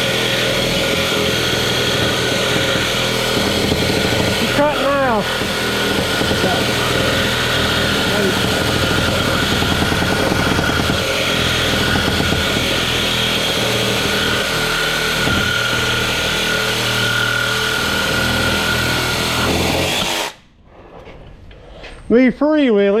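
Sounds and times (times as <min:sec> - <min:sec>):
reciprocating saw cutting metal: 0:00.0 - 0:20.4.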